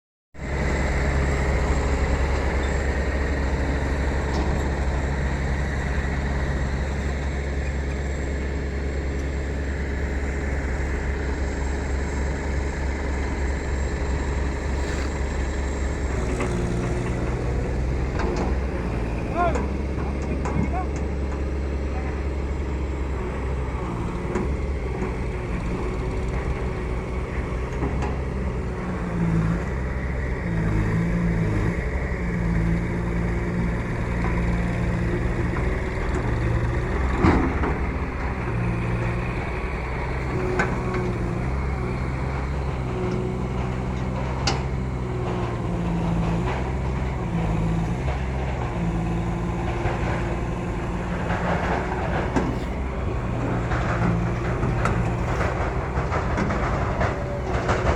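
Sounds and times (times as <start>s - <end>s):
tractor diesel engine running: 0.4s - 57.9s.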